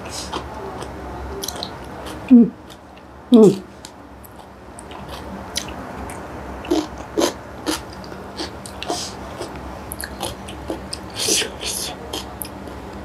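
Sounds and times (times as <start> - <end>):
wet chewing sounds: 0.2 - 3.0, 3.8 - 12.8.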